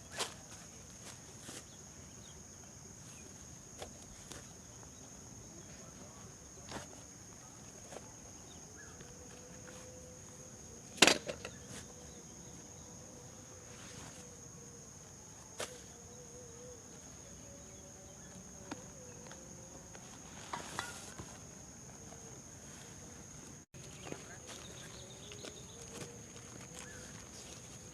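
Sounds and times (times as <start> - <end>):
insects droning: 0.0 - 27.9.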